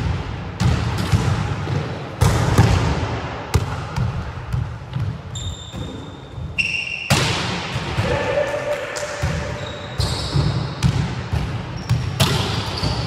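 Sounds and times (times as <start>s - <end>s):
volleyballs smacking and bouncing: 0.0s - 6.0s, 7.1s - 9.6s, 10.3s - 13.0s.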